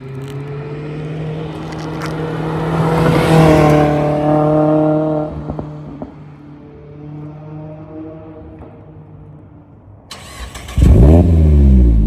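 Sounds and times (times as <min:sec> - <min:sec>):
car passing at speed: 0:00.2 - 0:12.0.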